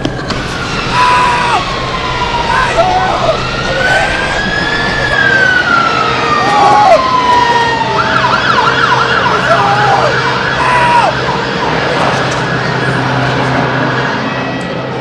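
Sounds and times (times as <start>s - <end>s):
rising and falling siren: 0.0s - 15.0s
fast yelping siren: 0.3s - 14.2s.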